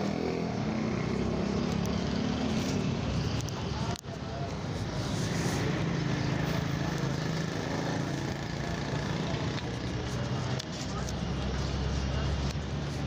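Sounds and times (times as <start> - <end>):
people's voices: 0.0 - 13.0
vehicle engine running: 0.0 - 13.0.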